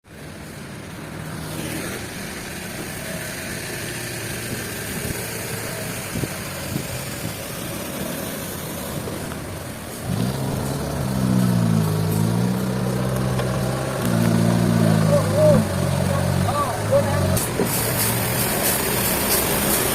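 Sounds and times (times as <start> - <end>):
vehicle engine revving: 1.1 - 19.9.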